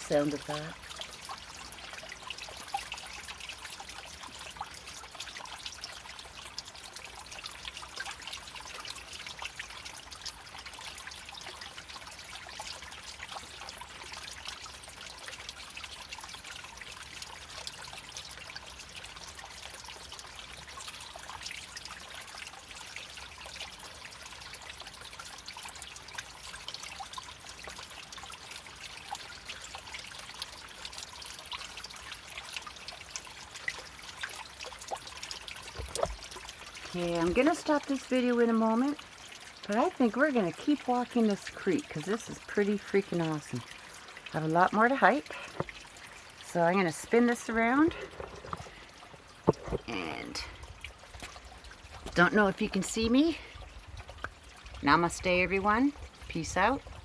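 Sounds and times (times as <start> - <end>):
creek water babbling over rocks: 0.0 - 57.0.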